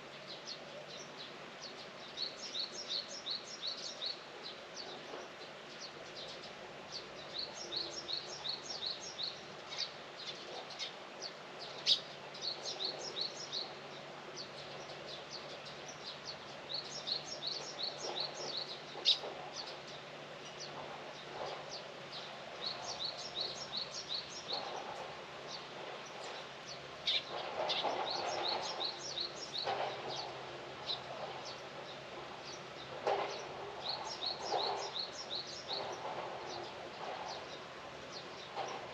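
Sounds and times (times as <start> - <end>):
outdoor background noise: 0.0 - 38.9
small songbird chirping: 5.8 - 38.8.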